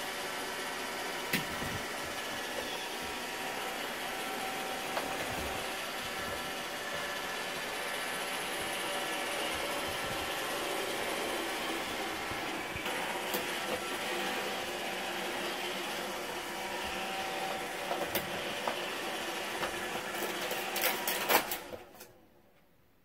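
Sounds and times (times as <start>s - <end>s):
robot vacuum whirring: 0.0s - 21.9s.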